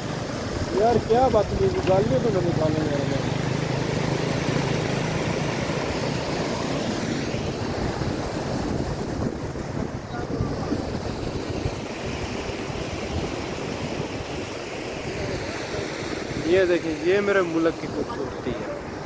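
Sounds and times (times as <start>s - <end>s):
stream rushing over rocks: 0.0s - 19.0s
wind buffeting microphone: 0.2s - 2.7s, 3.8s - 16.9s.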